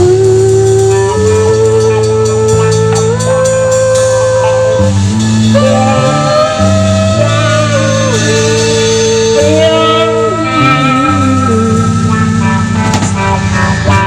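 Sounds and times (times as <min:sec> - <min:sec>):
sliding held melody line: 0:00.0 - 0:14.0
steady bass line: 0:00.0 - 0:14.0.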